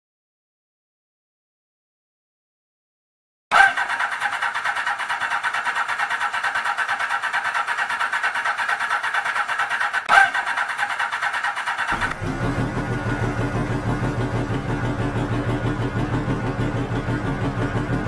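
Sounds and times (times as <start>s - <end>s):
motorcycle starter cranking: 3.5s - 18.0s.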